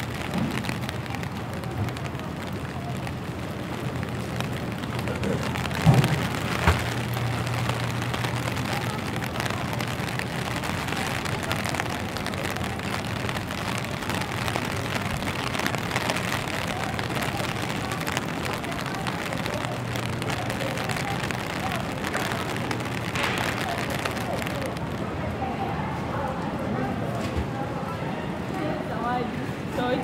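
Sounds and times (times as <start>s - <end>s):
rain falling on pavement: 0.0s - 30.0s.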